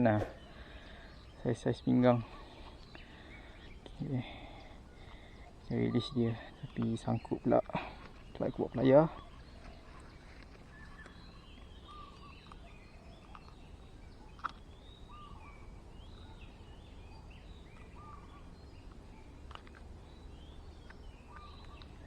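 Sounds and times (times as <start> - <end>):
birds chirping: 0.0 - 22.0
low steady background: 0.0 - 22.0.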